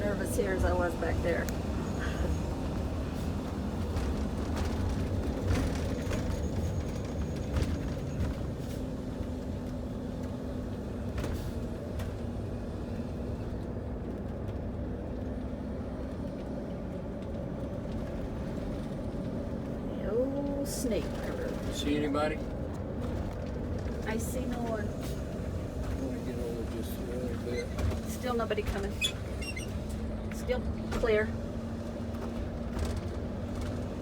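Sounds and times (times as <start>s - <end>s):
engine and road rumble: 0.0s - 34.0s.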